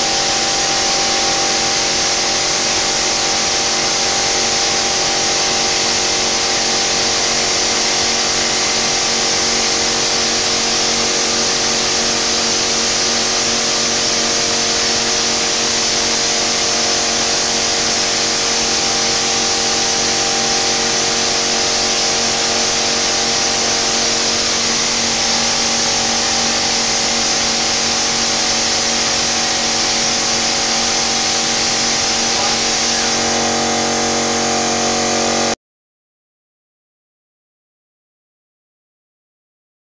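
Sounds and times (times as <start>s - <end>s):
machine hum: 0.0s - 35.6s.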